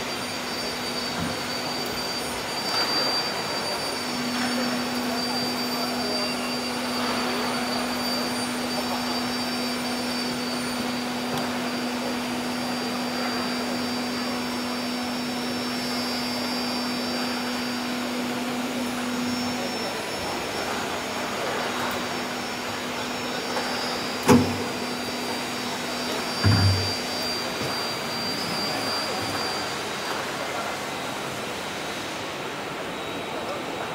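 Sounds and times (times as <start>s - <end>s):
milling machine hum: 0.0s - 33.9s.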